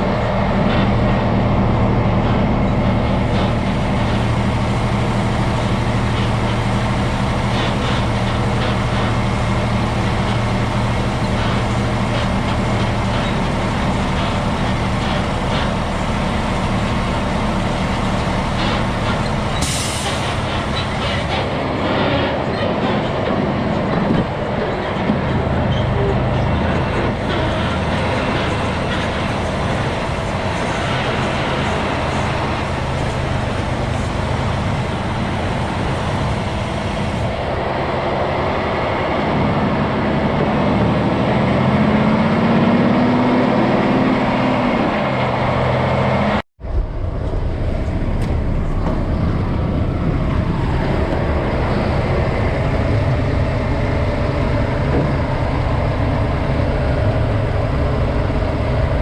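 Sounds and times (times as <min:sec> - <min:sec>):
diesel truck engine under load: 0:00.0 - 0:59.0
road noise: 0:00.0 - 0:59.0.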